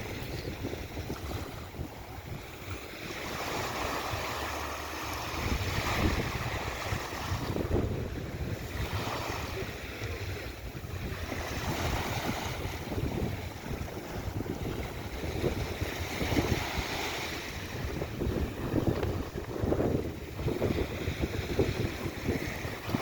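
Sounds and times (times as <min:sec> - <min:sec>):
sea waves breaking: 0:00.0 - 0:23.0
wind rumbling on microphone: 0:00.0 - 0:23.0.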